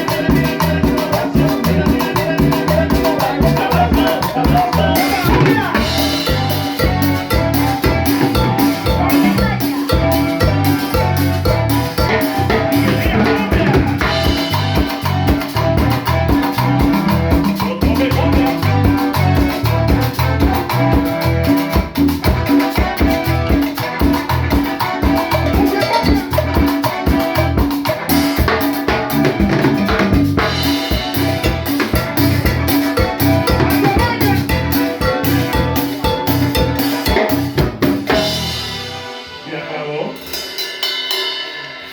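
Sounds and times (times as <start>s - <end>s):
drums and percussion beat: 0.0s - 41.9s
keyboard melody: 0.0s - 41.9s.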